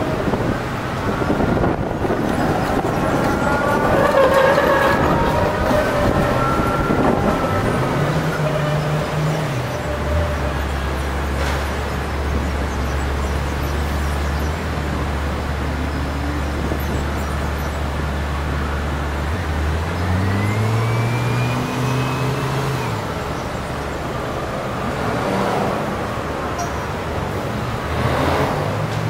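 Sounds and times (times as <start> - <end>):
vehicle pulling away: 0.0 - 26.6
low traffic engine hum: 0.0 - 29.0.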